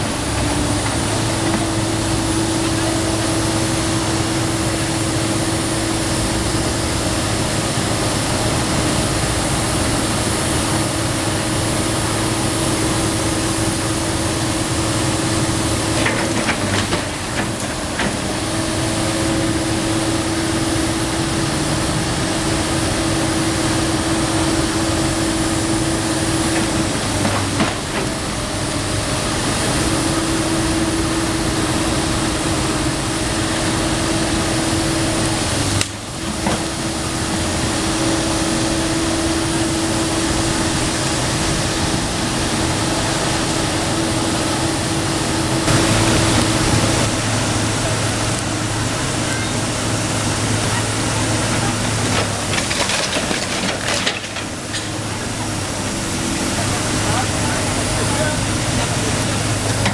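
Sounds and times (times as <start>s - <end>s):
excavator diesel engine: 0.0s - 59.9s
steady whine: 0.0s - 59.9s.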